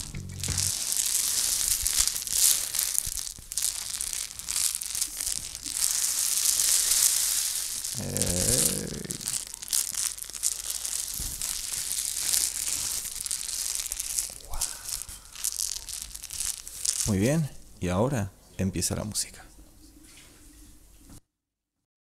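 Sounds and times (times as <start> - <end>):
rain stick grains trickling: 0.0 - 17.8.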